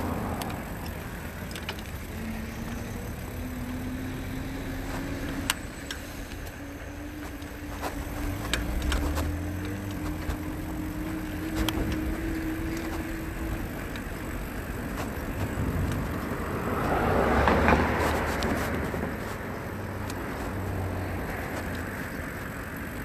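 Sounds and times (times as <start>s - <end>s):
bicycle tyre noise on pavement: 0.0s - 23.0s
light rattling clicks: 0.0s - 23.0s
steady whine: 0.0s - 23.0s
wind buffeting microphone: 0.0s - 23.0s.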